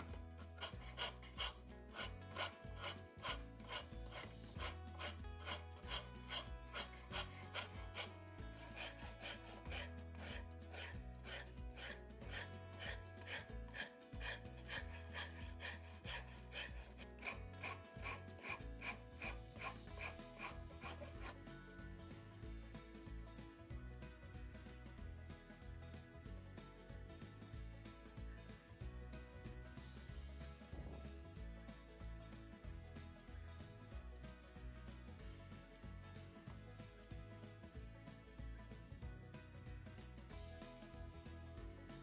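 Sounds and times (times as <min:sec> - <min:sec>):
wood rasp filing: 0:00.0 - 0:21.7, 0:27.8 - 0:41.4
faint background music: 0:00.0 - 0:42.0.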